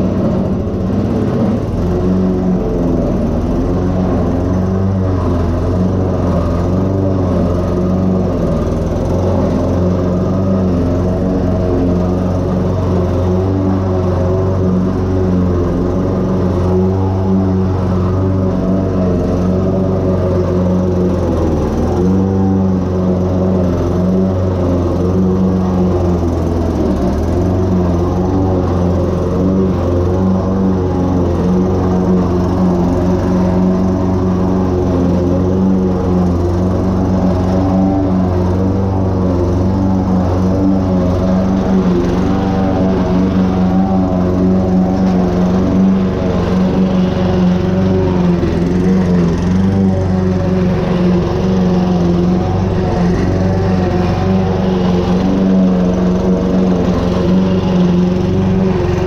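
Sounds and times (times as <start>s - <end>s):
lawn mower cutting grass: 0.0s - 59.0s.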